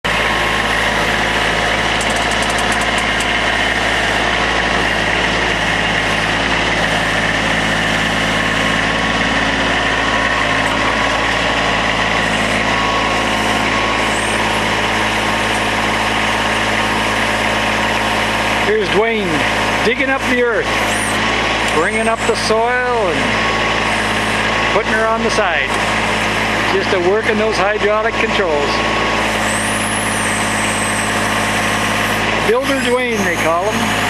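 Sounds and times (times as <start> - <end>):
backhoe engine running: 0.0 - 34.0.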